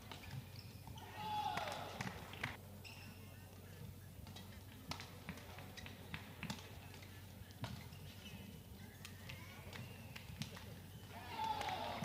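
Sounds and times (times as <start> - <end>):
low hum of hall: 0.0 - 12.0.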